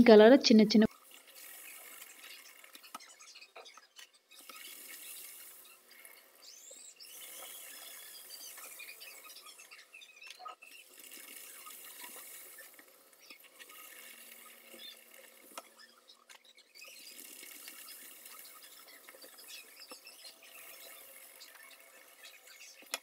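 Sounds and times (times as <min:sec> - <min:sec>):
deep-frying sizzle in oil: 0:00.9 - 0:23.0.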